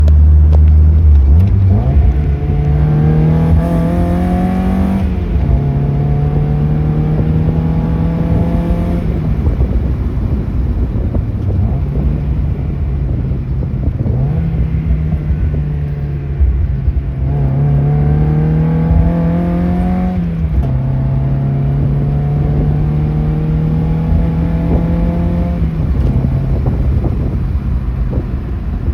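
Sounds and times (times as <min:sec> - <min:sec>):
car engine accelerating through gears: 0:00.0 - 0:28.9.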